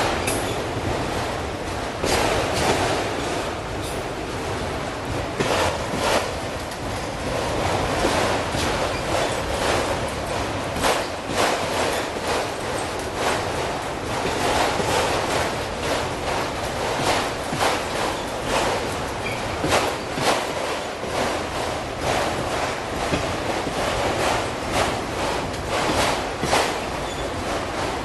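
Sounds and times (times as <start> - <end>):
freight train wheels on rails: 0.0 - 28.0
wheels clicking over rail joints: 0.0 - 28.0.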